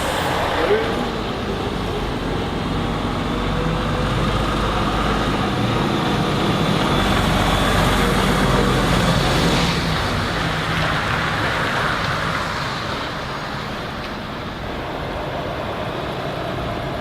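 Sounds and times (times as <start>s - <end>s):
truck engine driving by: 0.0s - 17.0s.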